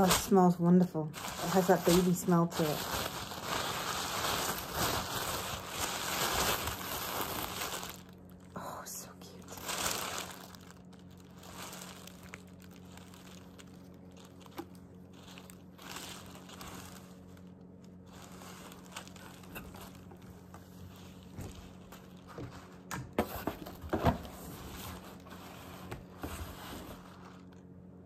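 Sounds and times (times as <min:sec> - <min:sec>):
tissue paper rustling: 0:00.0 - 0:08.5, 0:09.4 - 0:27.6
faint steady hum: 0:00.0 - 0:28.0.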